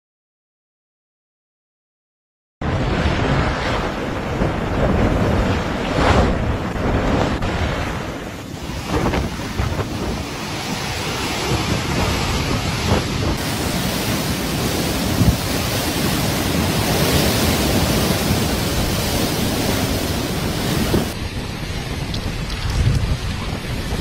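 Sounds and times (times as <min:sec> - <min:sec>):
heavy rain: 0:02.6 - 0:24.0
storm wind buffeting microphone: 0:02.6 - 0:24.0
surf breaking against a pier: 0:02.6 - 0:24.0.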